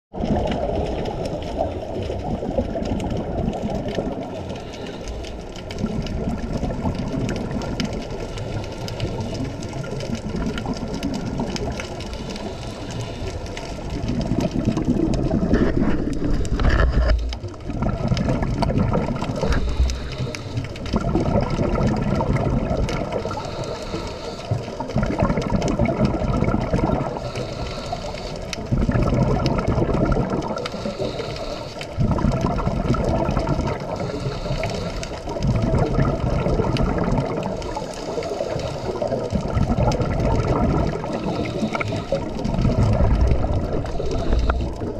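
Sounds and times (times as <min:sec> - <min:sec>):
underwater exhaled air bubbling: 0:00.1 - 0:44.9.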